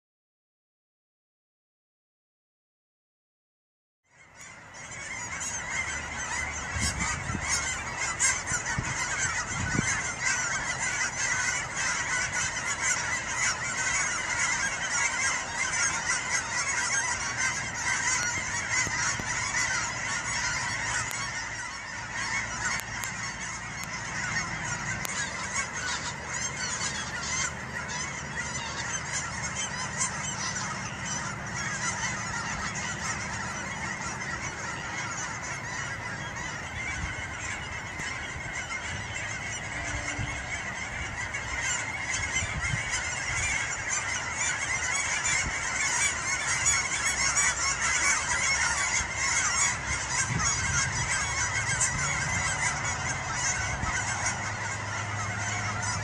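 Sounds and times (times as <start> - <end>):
geese honking: 4.1 - 56.0.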